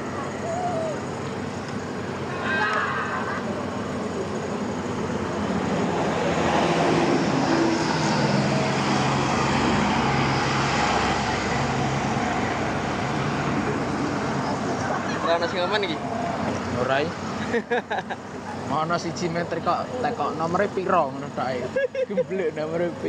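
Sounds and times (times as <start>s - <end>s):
heavy vehicle engine running: 0.0s - 23.0s.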